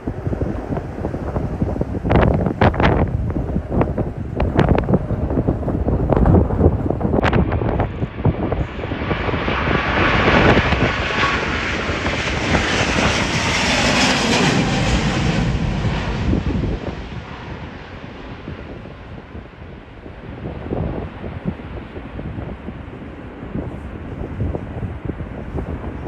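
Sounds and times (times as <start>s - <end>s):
jet airliner engines passing: 0.0s - 26.0s
wind buffeting microphone: 0.0s - 26.0s.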